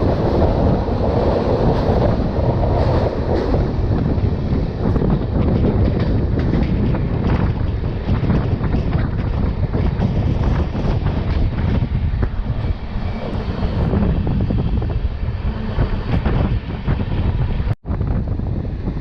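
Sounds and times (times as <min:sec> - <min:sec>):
train wheels rumbling on rails: 0:00.0 - 0:19.0
wind rushing: 0:00.0 - 0:19.0.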